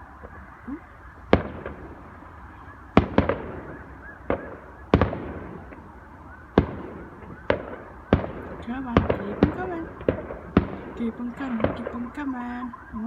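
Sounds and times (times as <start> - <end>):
fireworks banging: 0.0 - 12.9.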